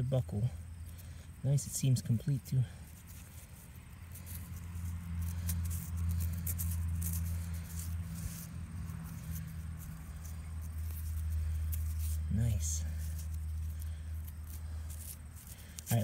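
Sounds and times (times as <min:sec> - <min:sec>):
steady low hum: 0:00.0 - 0:16.0
fingers rustling a dirty buckle: 0:01.8 - 0:16.0
dirt crumbs falling: 0:02.2 - 0:16.0.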